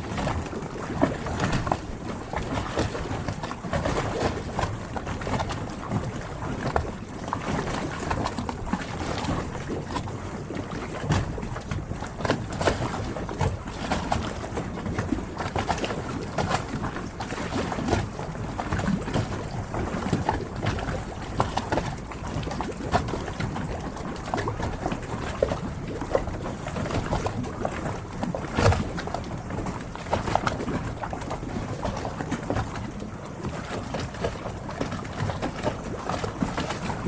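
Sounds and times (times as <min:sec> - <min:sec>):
small knocks and splashes: 0:00.0 - 0:37.0
water lapping against hulls: 0:00.0 - 0:37.0.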